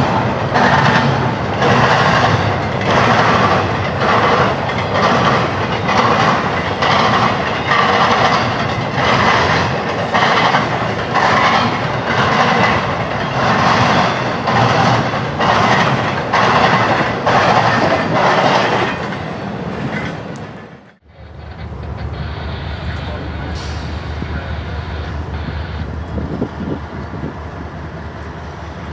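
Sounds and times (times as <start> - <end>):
freight train wheels clicking: 0.0 - 28.9.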